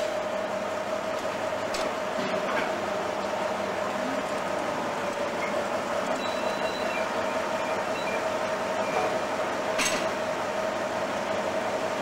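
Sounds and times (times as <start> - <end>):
diesel locomotive humming: 0.0 - 12.0.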